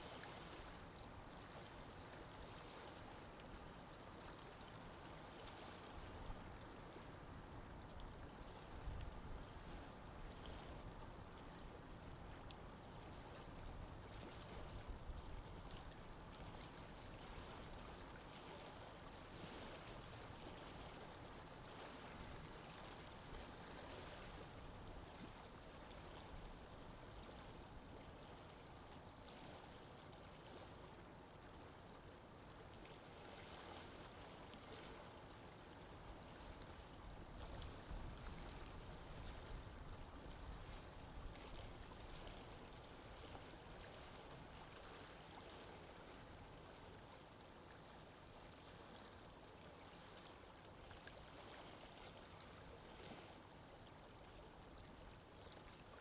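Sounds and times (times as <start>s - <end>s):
lake water moving gently: 0.0s - 56.0s.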